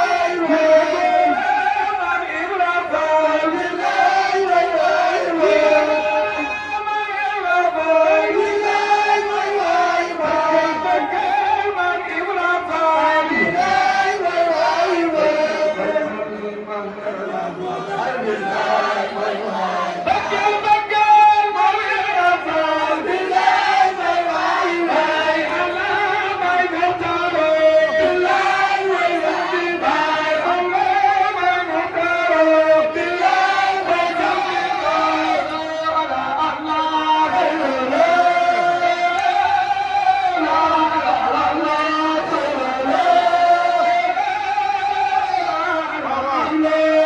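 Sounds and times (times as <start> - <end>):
group chanting in unison: 0.0 - 6.7, 7.6 - 11.8, 12.6 - 20.8, 21.5 - 47.0.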